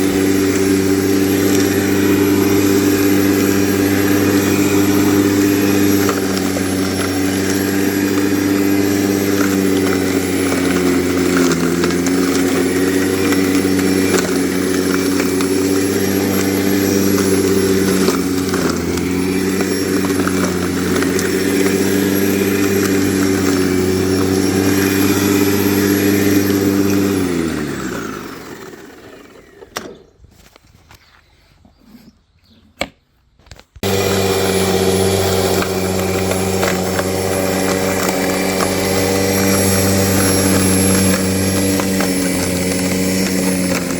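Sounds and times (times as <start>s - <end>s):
electric lawn mower humming: 0.0s - 30.5s, 33.8s - 43.9s.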